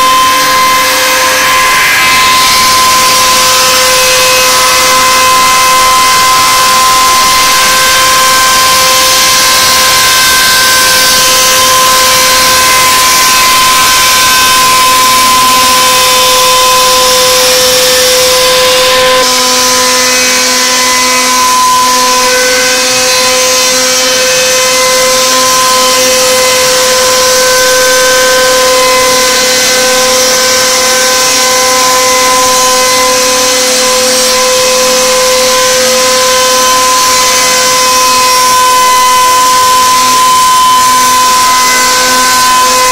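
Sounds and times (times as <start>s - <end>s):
router spindle whining: 0.0s - 42.9s.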